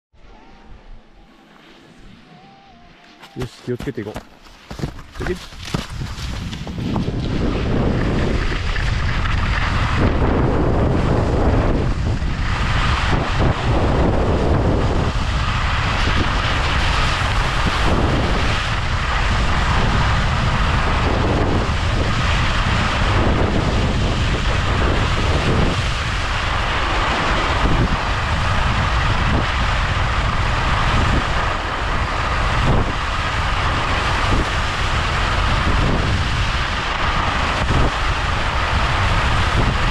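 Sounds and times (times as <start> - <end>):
skis carving on snow: 1.3 - 2.4, 3.0 - 39.9
wind rushing over microphone: 3.4 - 39.9.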